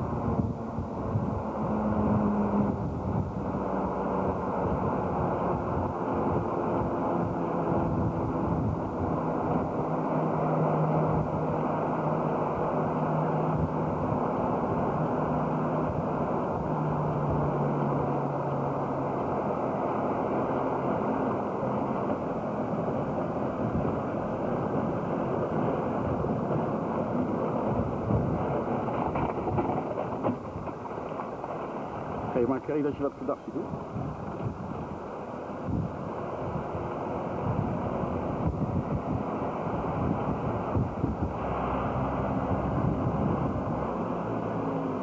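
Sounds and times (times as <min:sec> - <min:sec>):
engine hum: 0:00.0 - 0:45.0
vehicle road rumble: 0:00.0 - 0:45.0.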